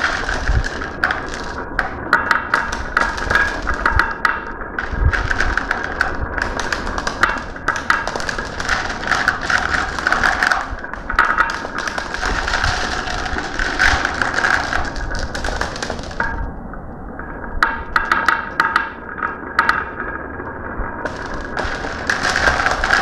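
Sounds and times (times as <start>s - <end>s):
marbles clacking down a track: 0.0s - 16.8s, 17.6s - 23.0s.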